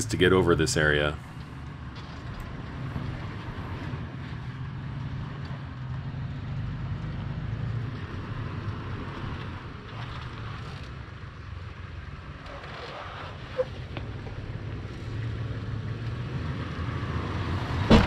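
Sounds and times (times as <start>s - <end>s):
truck engine low drone: 0.0s - 18.0s.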